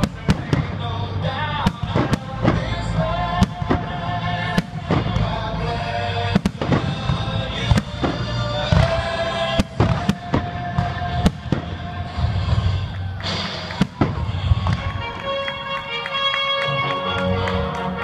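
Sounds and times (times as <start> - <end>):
fireworks bursting: 0.0 - 18.0
music playing: 0.0 - 18.0.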